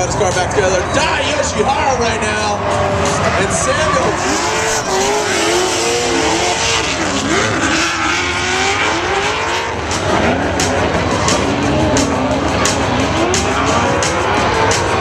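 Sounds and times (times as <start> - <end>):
car engines revving: 0.0 - 15.0
tyres spinning on asphalt: 0.0 - 15.0.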